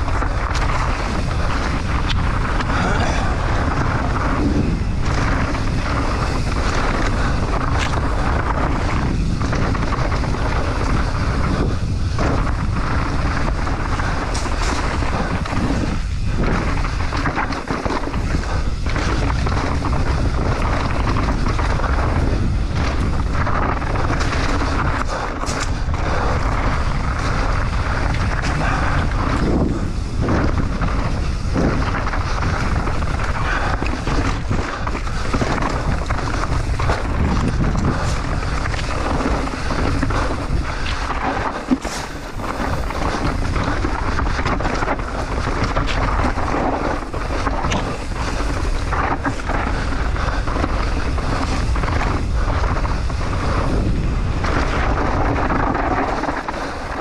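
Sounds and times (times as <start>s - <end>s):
bike rattling over bumps: 0.0s - 57.0s
bike tyres on gravel trail: 0.0s - 57.0s
wind buffeting microphone: 0.0s - 57.0s.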